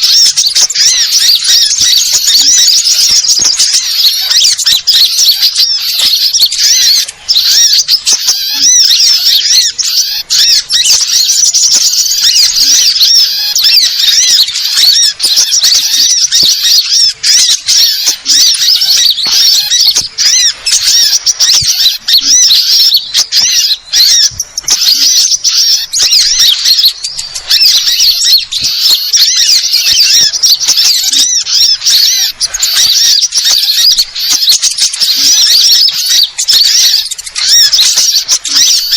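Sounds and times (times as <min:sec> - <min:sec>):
chorus of birds twittering: 0:00.0 - 0:38.9.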